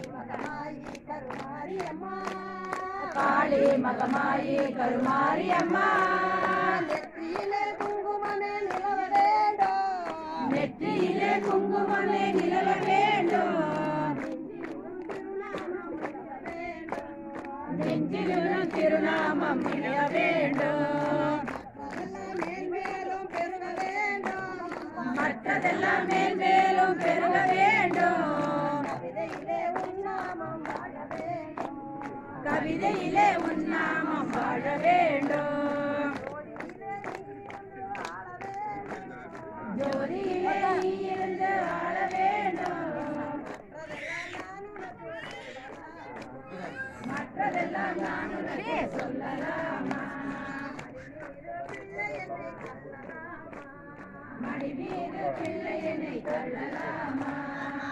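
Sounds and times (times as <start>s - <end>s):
group singing a hymn: 0.0s - 44.0s, 46.0s - 57.9s.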